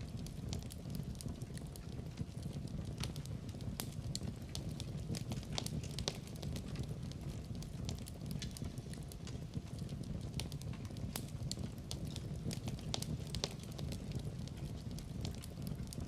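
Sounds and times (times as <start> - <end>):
fire crackling and popping: 0.0 - 16.0
fire roaring: 0.0 - 16.0.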